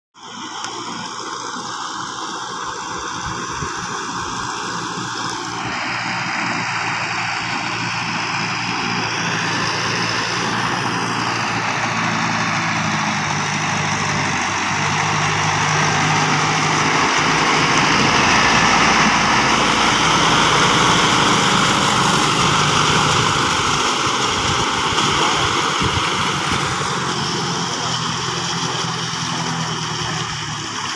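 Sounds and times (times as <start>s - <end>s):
tractor diesel engine under load: 0.2s - 30.9s.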